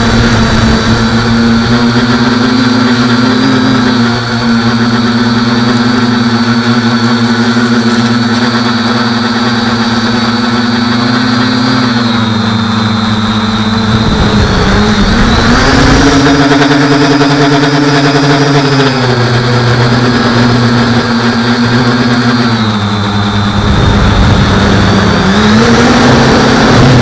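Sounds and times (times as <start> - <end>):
drone propellers buzzing: 0.0 - 27.0.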